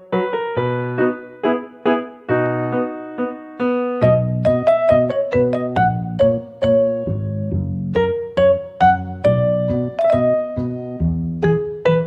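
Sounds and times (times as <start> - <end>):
piano-like keyboard tune: 0.0 - 12.0.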